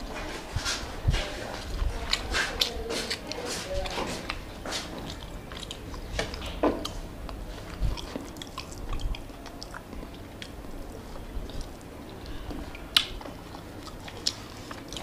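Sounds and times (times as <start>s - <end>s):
person chewing food: 0.0s - 15.0s
mouth clicks and smacks: 1.6s - 15.0s.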